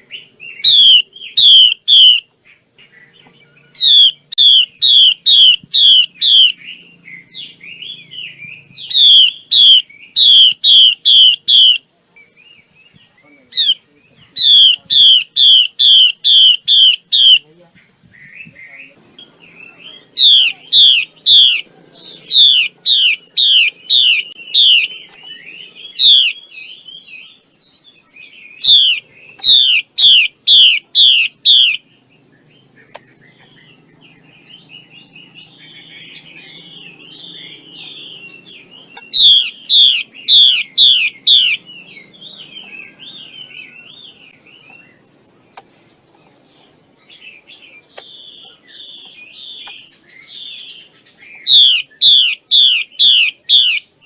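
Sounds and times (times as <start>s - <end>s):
bird chattering: 0.0s - 11.9s, 13.3s - 17.6s, 18.2s - 54.0s
bird whistled song: 0.0s - 17.5s, 18.1s - 46.4s, 47.0s - 54.0s.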